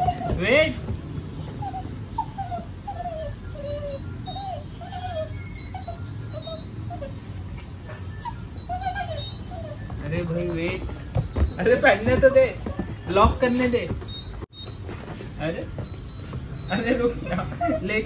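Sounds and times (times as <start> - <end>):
dog whining: 0.0 - 18.0.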